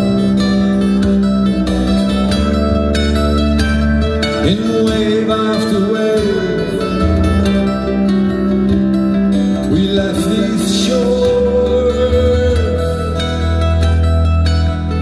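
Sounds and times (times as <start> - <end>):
double bass: 0.0 - 15.0
strummed acoustic guitar: 0.0 - 15.0.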